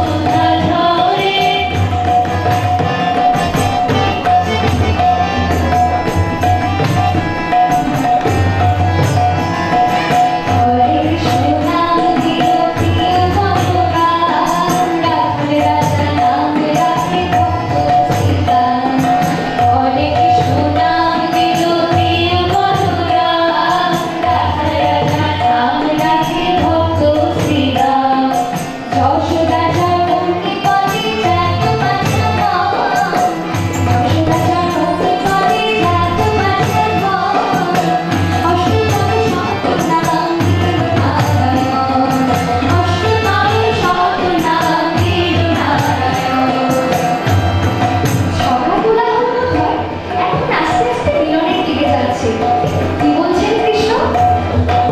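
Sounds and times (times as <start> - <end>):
woman singing a devotional song: 0.0 - 8.1, 9.7 - 54.9
harmonium: 0.0 - 54.9.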